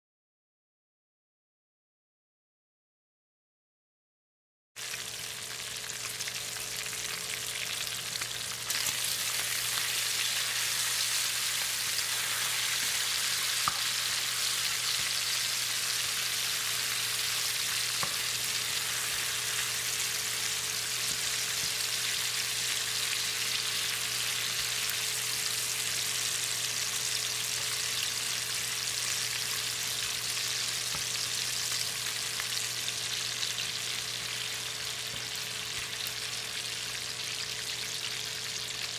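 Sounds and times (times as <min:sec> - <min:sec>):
bacon sizzling in a pan: 0:04.8 - 0:38.9.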